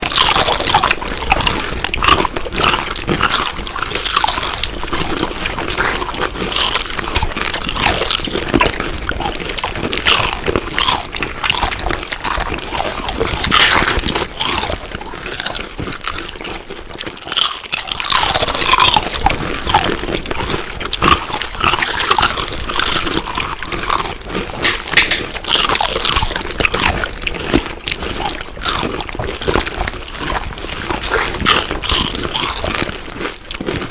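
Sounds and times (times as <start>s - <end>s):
chewing crunchy food: 0.0s - 33.9s.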